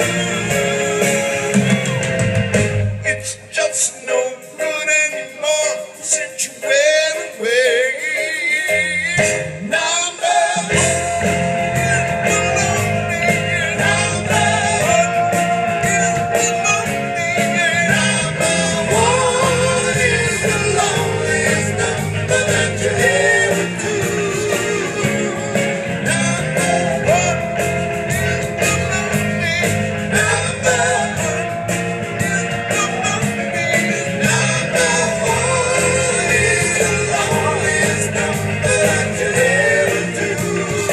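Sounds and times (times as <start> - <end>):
person singing: 0.0 - 2.1, 3.0 - 40.9
rock band playing live: 0.0 - 40.9.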